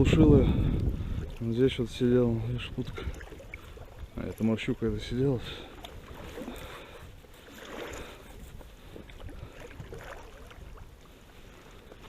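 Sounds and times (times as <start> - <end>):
water lapping around rowboat: 0.0 - 12.0.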